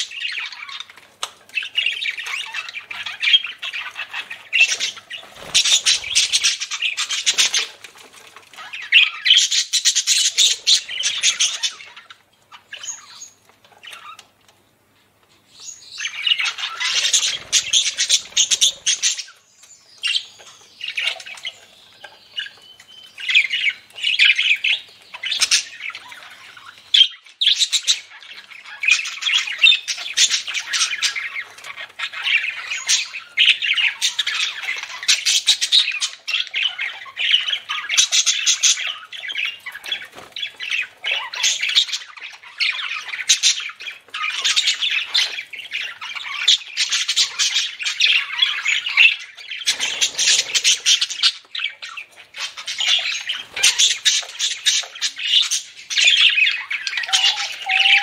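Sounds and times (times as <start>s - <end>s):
budgerigars chattering: 0.0s - 7.8s, 8.6s - 14.4s, 15.9s - 19.4s, 20.0s - 58.0s.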